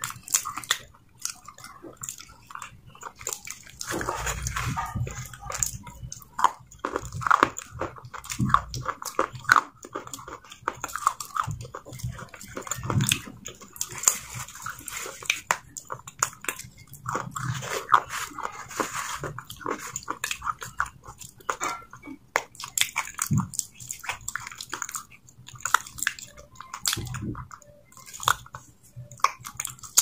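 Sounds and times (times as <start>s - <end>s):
wet mouth chewing sounds: 0.0s - 30.0s.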